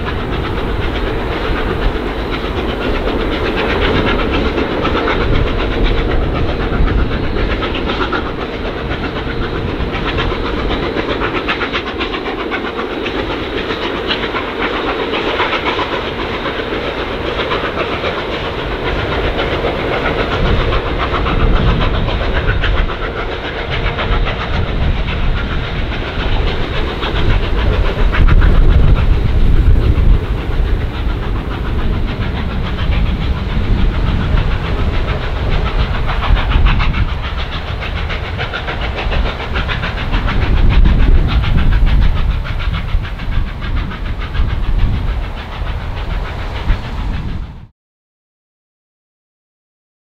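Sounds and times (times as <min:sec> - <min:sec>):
steam train rumbling past: 0:00.0 - 0:47.7.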